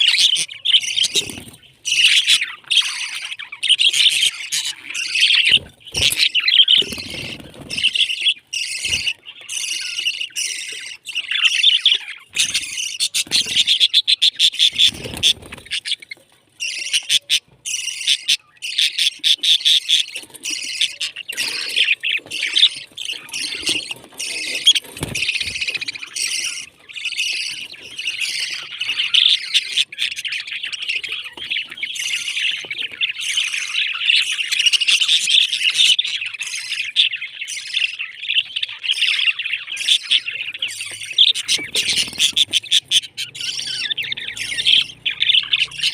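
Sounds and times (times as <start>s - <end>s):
parrots chirping and chattering: 0.0s - 45.9s.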